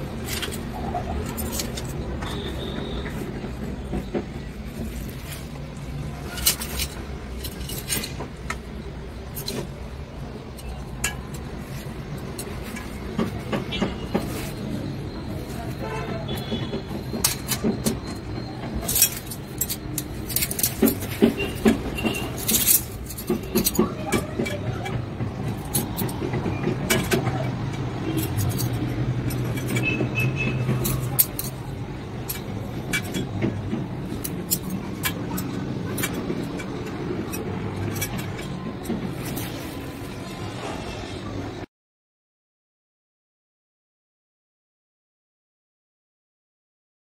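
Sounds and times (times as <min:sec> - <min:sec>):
utensils clinking: 0:00.0 - 0:41.0.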